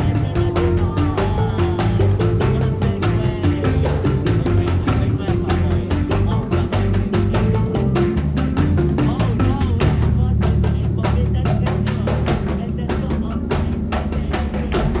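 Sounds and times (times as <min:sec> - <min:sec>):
bass line: 0:00.0 - 0:14.0
fast drum beat: 0:00.0 - 0:15.0.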